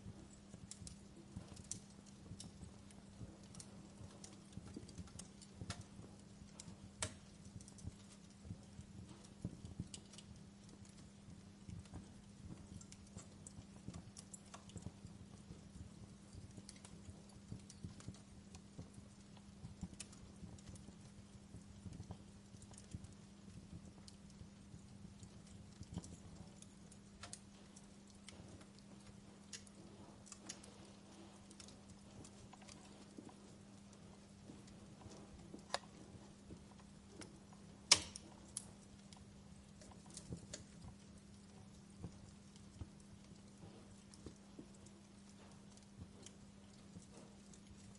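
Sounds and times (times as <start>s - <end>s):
faint low hum: 0.0s - 47.9s
wood fire crackling: 0.0s - 47.9s.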